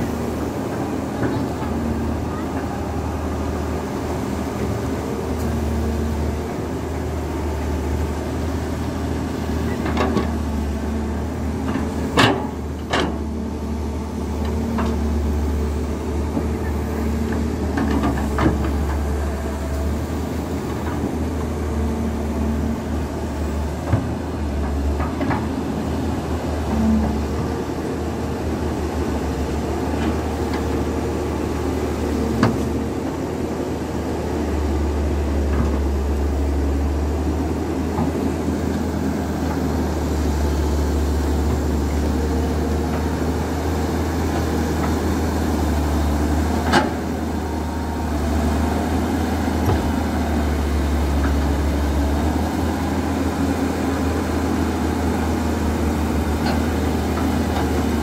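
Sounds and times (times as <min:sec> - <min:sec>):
excavator diesel engine drone: 0:00.0 - 0:58.0.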